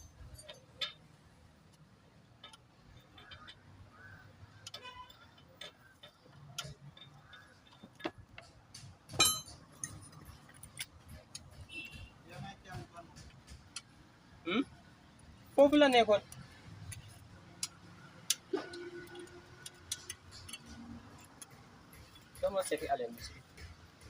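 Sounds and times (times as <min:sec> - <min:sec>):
metallic clicks of tools and engine parts: 0:00.0 - 0:24.0.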